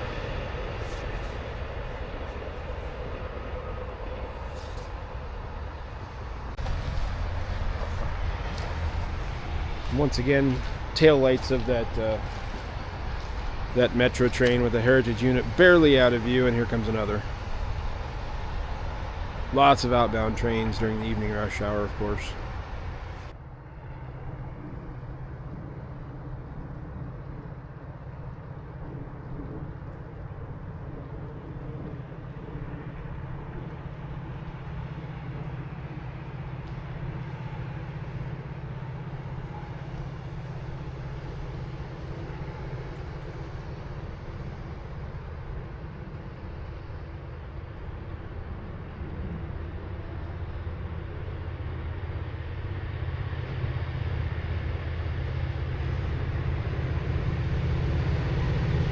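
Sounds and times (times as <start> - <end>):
diesel engine hum: 0.0 - 58.9
train rail noise: 0.0 - 58.9.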